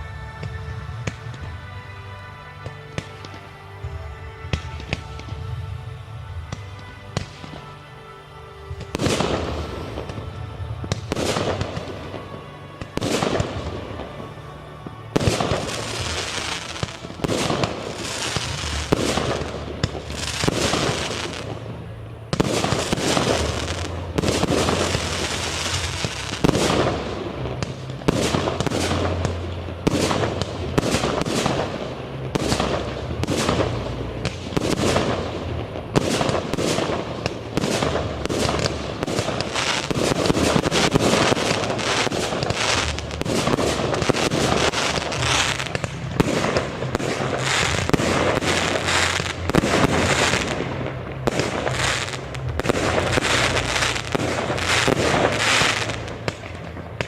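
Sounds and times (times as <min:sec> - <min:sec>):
background music: 0:00.0 - 0:57.0
crackling firework sprays: 0:00.0 - 0:57.0.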